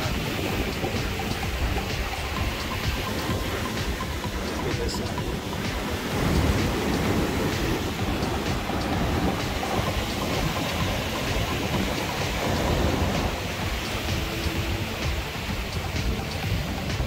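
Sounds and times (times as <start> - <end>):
waves breaking on rocks: 0.0 - 17.0
wind buffeting microphone: 0.0 - 17.0.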